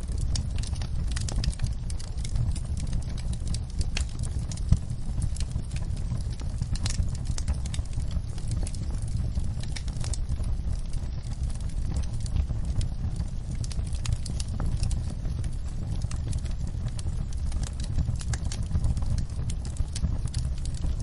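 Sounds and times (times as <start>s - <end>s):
rain on a window: 0.0s - 21.0s
wood fire crackling: 0.0s - 21.0s.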